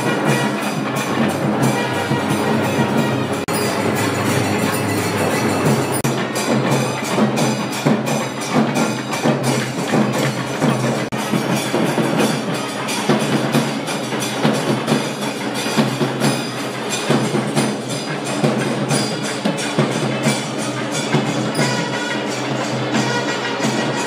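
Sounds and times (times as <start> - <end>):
fast sharp drum strokes: 0.0 - 24.0.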